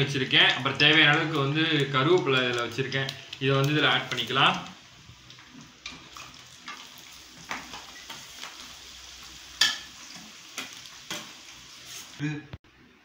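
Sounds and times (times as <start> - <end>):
onions sizzling in oil: 0.0 - 12.2.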